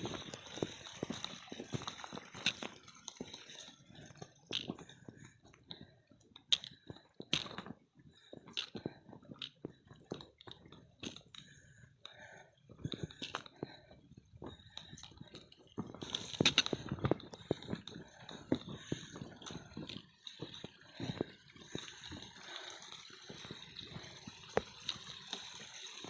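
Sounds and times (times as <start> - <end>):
footsteps crunching on rocky trail: 0.0 - 11.5, 12.6 - 26.0.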